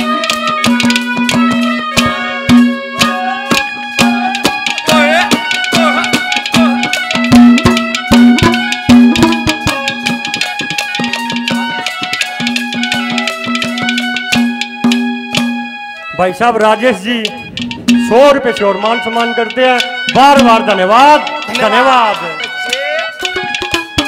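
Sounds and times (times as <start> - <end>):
hand drum beating quick rhythm: 0.0 - 15.7, 19.0 - 24.0
held melody notes: 0.0 - 24.0
wavering melody line: 0.0 - 24.0.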